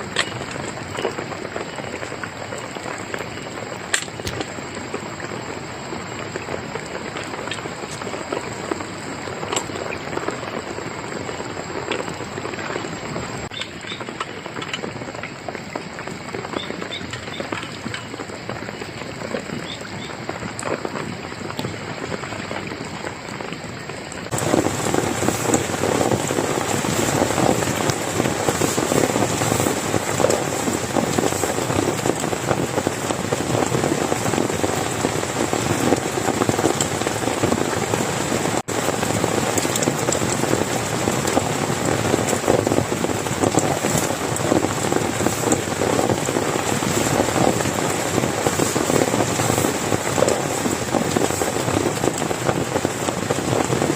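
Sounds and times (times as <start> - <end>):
heavy rain pattering: 0.0 - 53.9.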